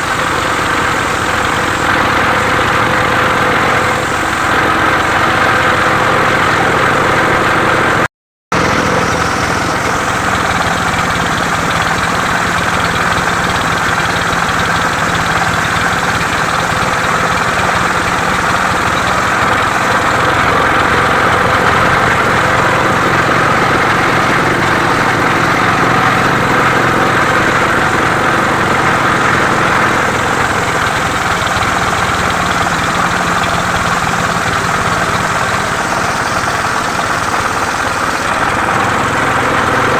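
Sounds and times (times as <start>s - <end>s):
saw engine running steadily: 0.0s - 39.9s.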